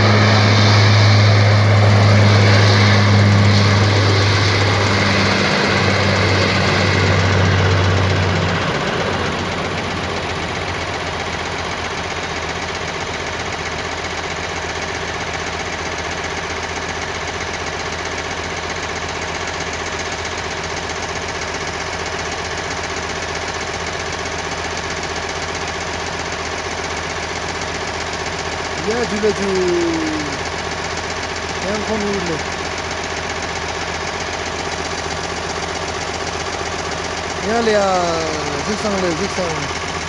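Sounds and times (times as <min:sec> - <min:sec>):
turboprop engines droning: 0:00.0 - 0:40.0.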